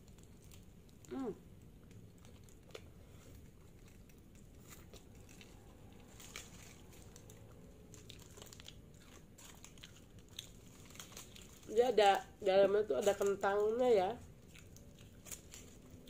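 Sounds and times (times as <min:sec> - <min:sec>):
soft biting and chewing: 0:00.0 - 0:11.7, 0:14.2 - 0:16.0
aluminium foil crinkling: 0:00.0 - 0:16.0.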